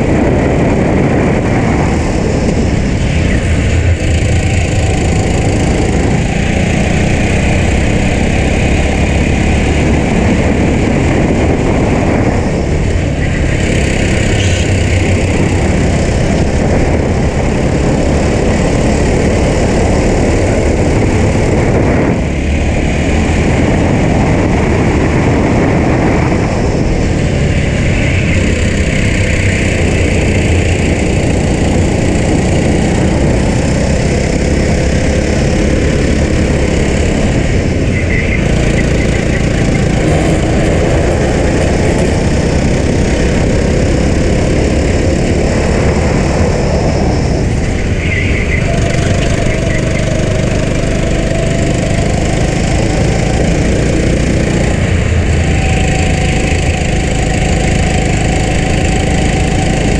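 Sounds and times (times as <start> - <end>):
go-kart engine running hard: 0.0 - 59.9
wind rumble on microphone: 0.0 - 59.9.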